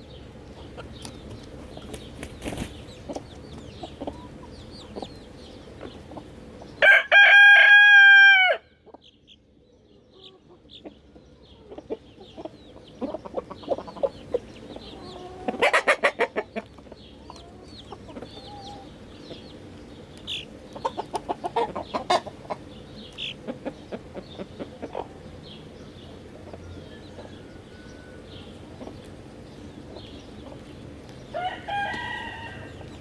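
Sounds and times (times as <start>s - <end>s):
chickens clucking and calling: 0.0s - 33.0s.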